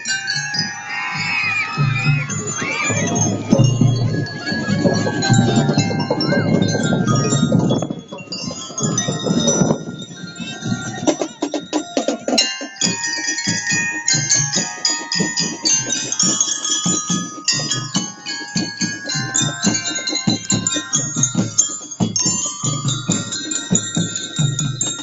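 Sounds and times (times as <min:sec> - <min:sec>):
drums beating: 0:00.0 - 0:25.0
glockenspiels struck with mallets: 0:00.0 - 0:25.0.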